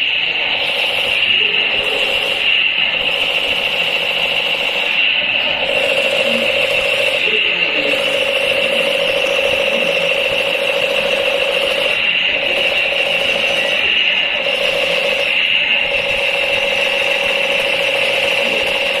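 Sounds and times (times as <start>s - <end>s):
toy machine gun rattling buzz: 0.0s - 19.0s.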